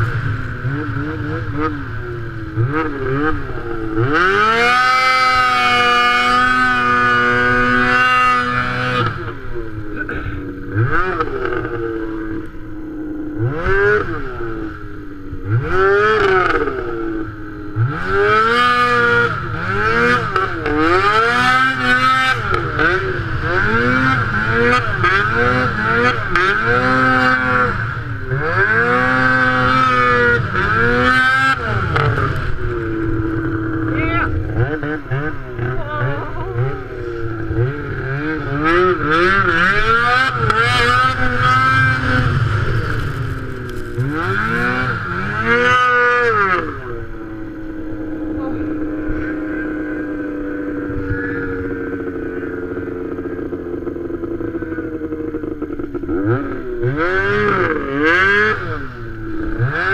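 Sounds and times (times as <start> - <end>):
snowmobile engine revving: 0.0 - 12.6, 13.2 - 59.9.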